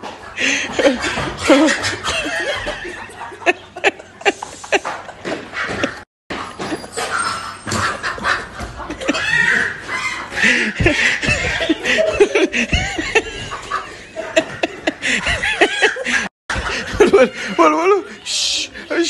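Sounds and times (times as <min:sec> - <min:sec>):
people snickering and giggling: 0:00.3 - 0:06.0, 0:07.9 - 0:18.9.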